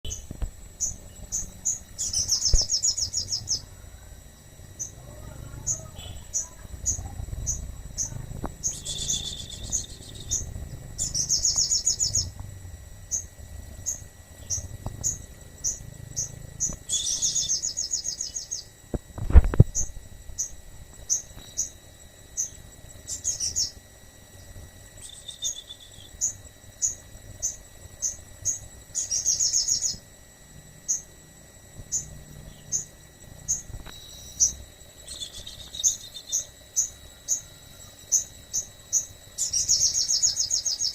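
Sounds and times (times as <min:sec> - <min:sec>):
insect chirping and trilling: 0:00.0 - 0:40.9.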